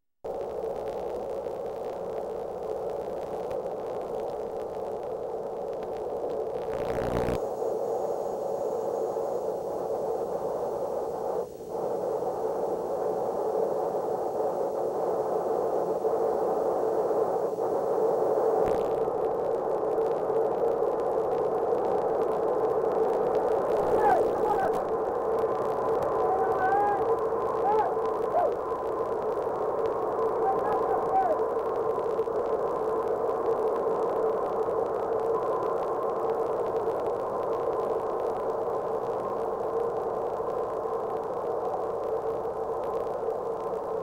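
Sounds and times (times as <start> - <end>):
videotape static hiss: 0.2 - 44.0.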